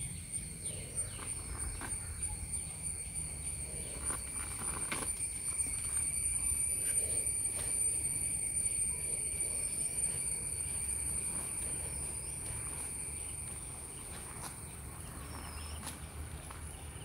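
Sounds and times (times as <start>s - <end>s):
insects shrilling drone: 0.0s - 17.0s.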